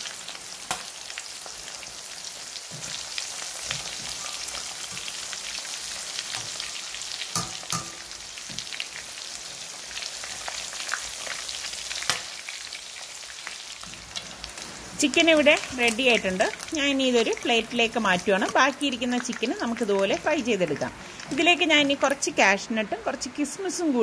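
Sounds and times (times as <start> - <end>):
chicken sizzling in hot oil: 0.0 - 22.5.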